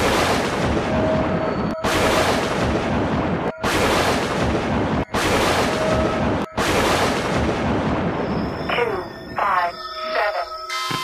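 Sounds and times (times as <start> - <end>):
loud rumbling noise: 0.0 - 9.1.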